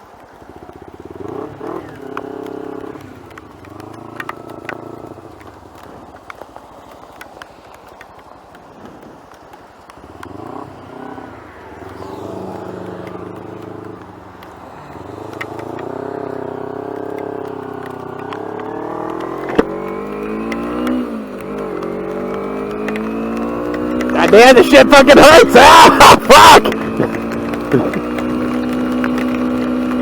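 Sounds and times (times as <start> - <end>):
hail ticking: 0.0 - 30.0
motorcycle engine accelerating: 0.2 - 6.9, 8.8 - 30.0.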